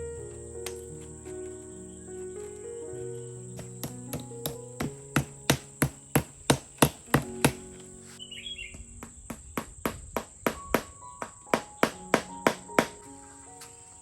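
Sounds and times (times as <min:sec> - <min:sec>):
soft background music: 0:00.0 - 0:09.6, 0:10.4 - 0:14.0
crickets chirring: 0:00.0 - 0:14.0.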